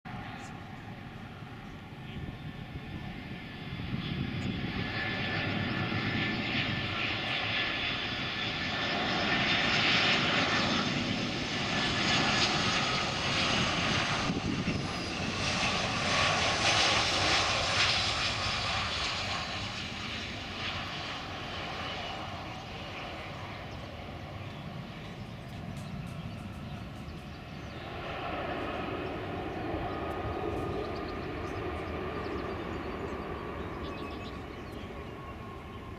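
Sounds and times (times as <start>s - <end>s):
jet engines passing: 0.1s - 35.9s.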